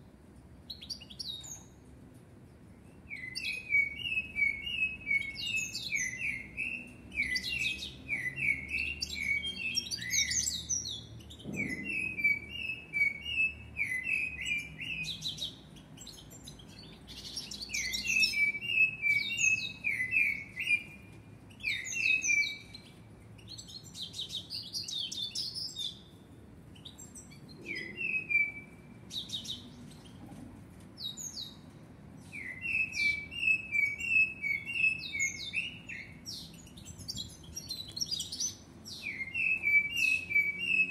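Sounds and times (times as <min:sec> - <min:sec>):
blackbird singing: 0:00.7 - 0:01.8, 0:02.9 - 0:30.4, 0:31.0 - 0:40.9.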